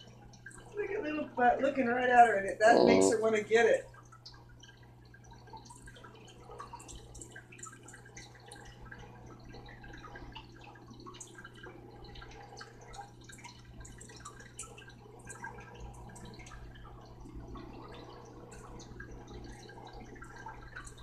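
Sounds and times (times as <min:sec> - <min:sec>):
water trickling and dripping: 0:00.0 - 0:21.0.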